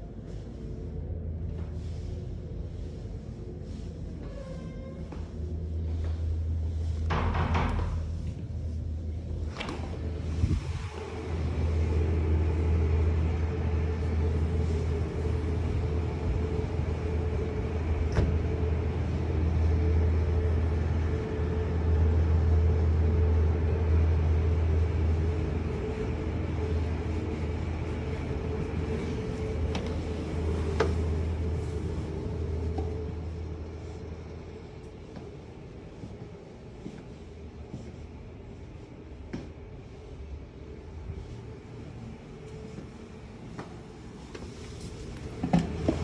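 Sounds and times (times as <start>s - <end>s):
building machinery hum: 0.0s - 46.0s
traffic drone: 0.0s - 46.0s.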